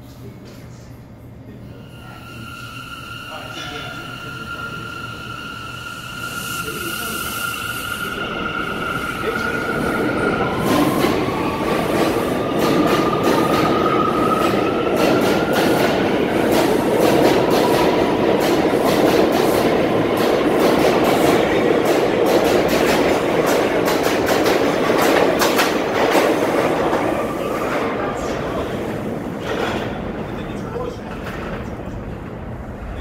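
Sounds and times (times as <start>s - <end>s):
subway train rumbling: 0.0s - 33.0s.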